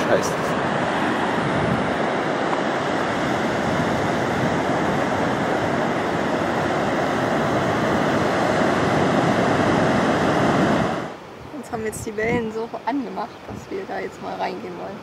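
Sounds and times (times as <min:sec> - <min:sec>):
ocean waves washing on beach: 0:00.0 - 0:15.0.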